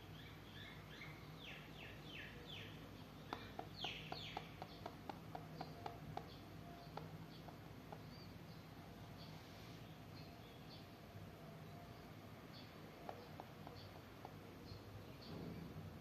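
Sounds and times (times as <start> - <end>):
faint bird song: 0.0 - 16.0
low steady hum: 0.0 - 16.0.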